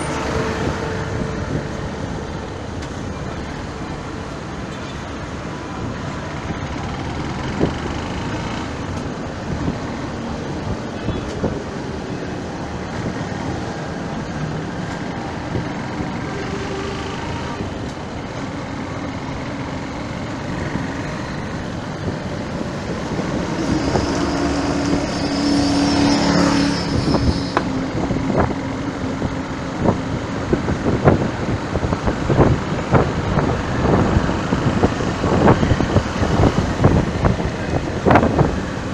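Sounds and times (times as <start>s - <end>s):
loud vehicle passing with tones: 0.0s - 18.3s, 18.9s - 38.9s
road traffic going by: 0.0s - 38.9s.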